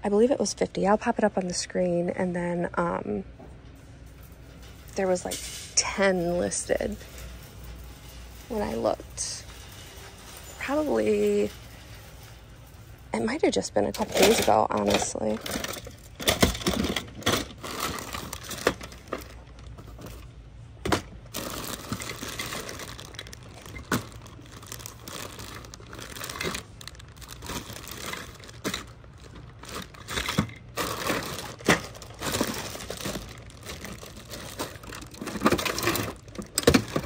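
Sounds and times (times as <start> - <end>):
crinkling and rustling: 3.8 - 37.0.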